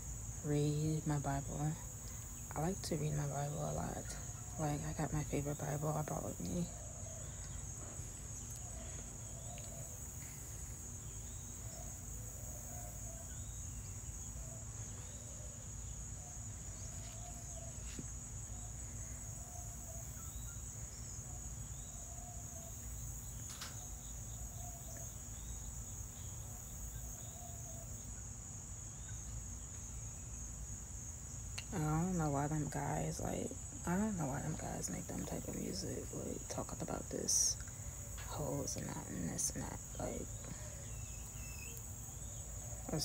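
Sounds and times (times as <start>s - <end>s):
insect chorus trilling: 0.0s - 43.0s.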